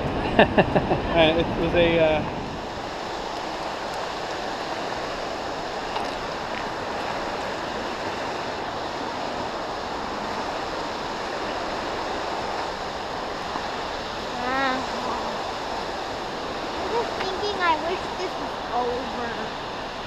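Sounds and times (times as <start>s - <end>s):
waterfall rushing: 0.9s - 20.0s.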